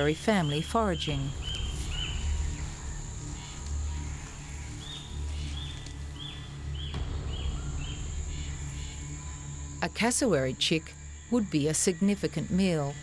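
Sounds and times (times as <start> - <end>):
high insect drone: 0.0 - 13.0
low background music: 0.0 - 13.0.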